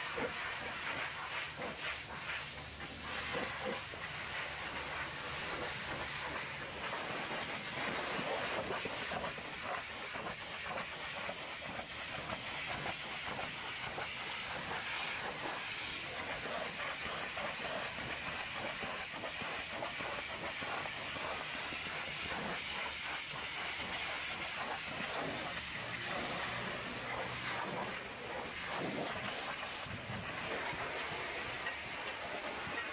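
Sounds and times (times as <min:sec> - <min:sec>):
pressure washer jet hiss: 0:00.0 - 0:32.9.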